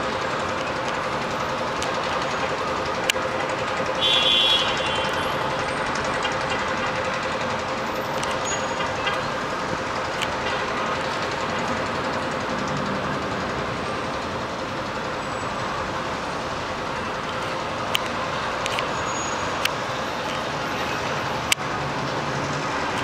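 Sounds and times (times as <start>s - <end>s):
constant hum: 0.0s - 23.0s
distant street traffic: 0.0s - 23.0s.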